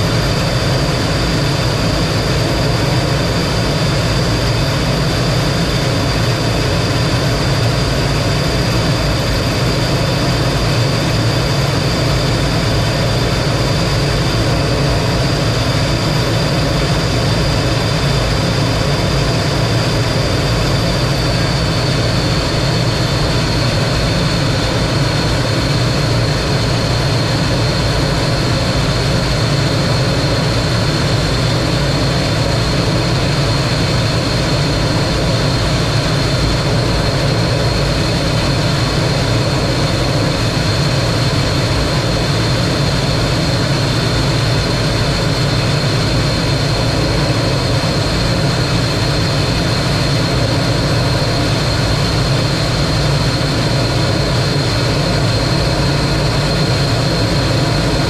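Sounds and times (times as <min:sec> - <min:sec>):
jet engine running with whine: 0:00.0 - 0:58.0.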